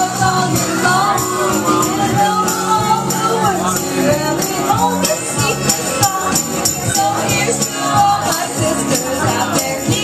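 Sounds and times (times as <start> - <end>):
music over a pa system: 0.0 - 10.0
person singing: 0.0 - 10.0.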